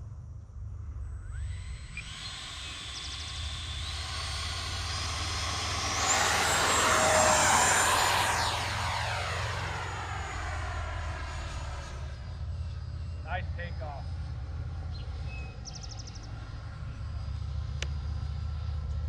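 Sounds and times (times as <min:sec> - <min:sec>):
electric ducted fan whining: 0:01.0 - 0:18.7.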